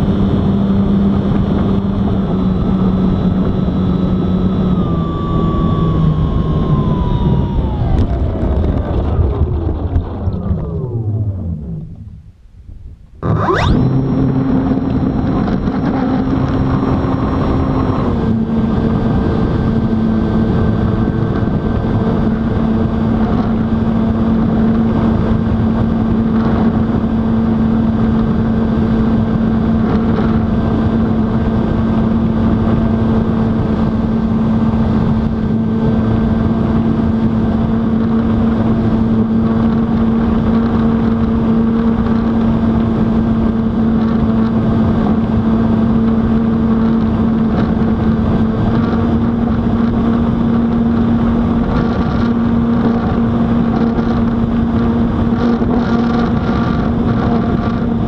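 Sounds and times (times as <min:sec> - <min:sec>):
electric motor and propeller drone: 0:00.0 - 0:12.1, 0:13.2 - 0:58.0.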